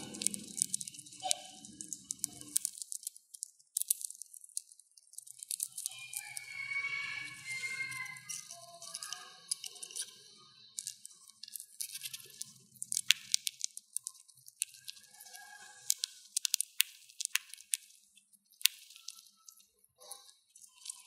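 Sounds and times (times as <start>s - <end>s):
hamster cracking seed shells: 0.0s - 21.0s.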